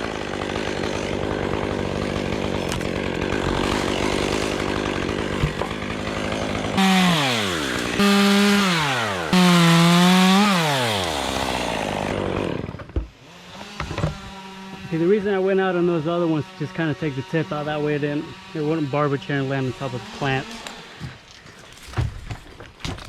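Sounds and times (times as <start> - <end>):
chainsaw revving: 0.0 - 21.3
chainsaw cutting wood: 0.0 - 23.0.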